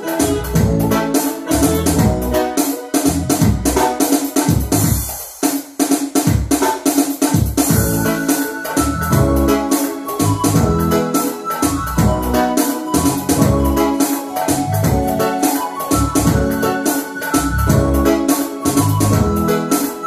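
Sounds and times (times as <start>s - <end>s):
electronic keyboard melody: 0.0s - 5.4s, 6.4s - 20.0s.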